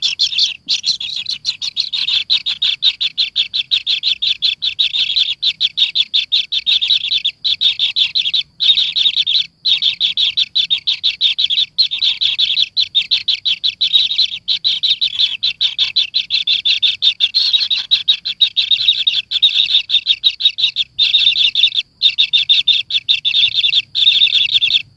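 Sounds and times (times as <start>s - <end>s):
nestling bird chirping: 0.0s - 24.9s.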